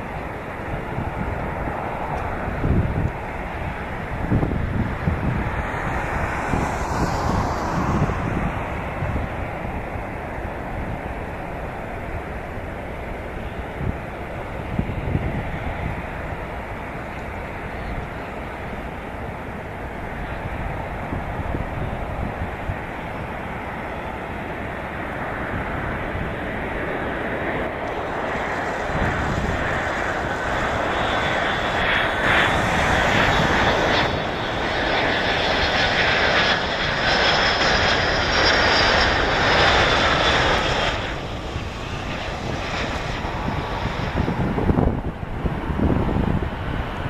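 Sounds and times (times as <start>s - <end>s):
airliner flying over: 0.0s - 47.0s.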